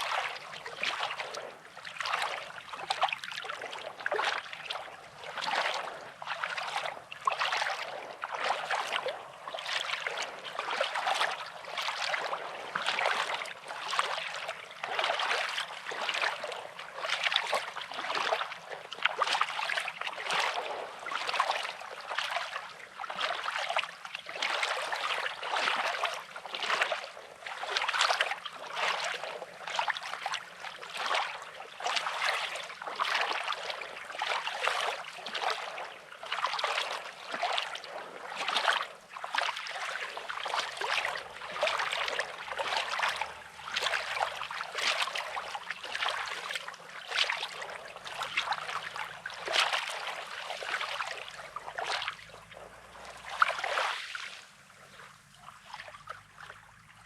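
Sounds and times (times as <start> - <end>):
waves lapping on pebbles: 0.0 - 57.0.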